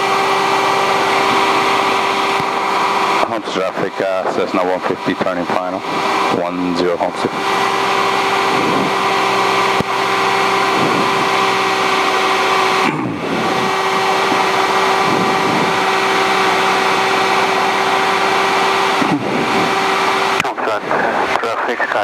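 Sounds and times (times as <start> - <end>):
light aircraft engine and propeller: 0.0 - 22.0.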